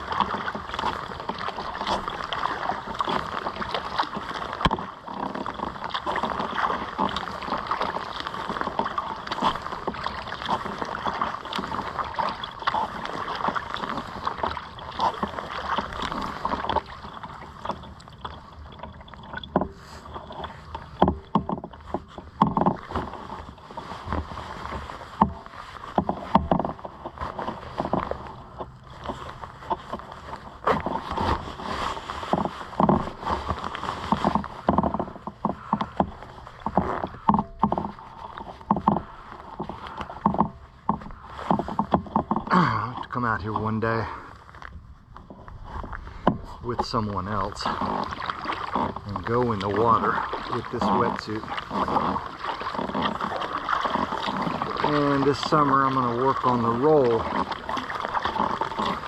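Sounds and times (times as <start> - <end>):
water rushing: 0.0 - 44.6, 45.7 - 59.0
paddle splashes: 0.0 - 59.0
small waves slapping hull: 0.0 - 59.0.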